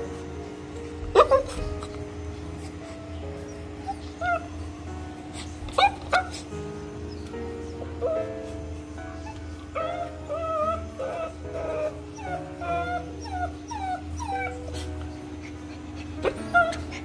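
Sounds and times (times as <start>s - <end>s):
background music with held notes: 0.0s - 17.0s
puppy whining: 0.0s - 17.0s.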